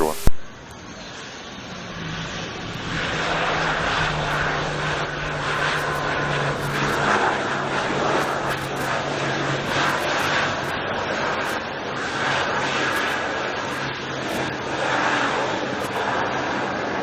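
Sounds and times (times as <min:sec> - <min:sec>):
aircraft engines running: 0:00.0 - 0:17.0.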